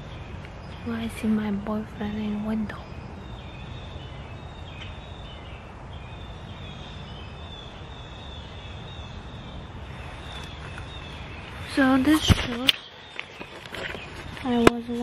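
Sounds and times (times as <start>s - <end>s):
birds chirping: 0.0s - 15.0s
low outdoor rumble: 0.0s - 15.0s.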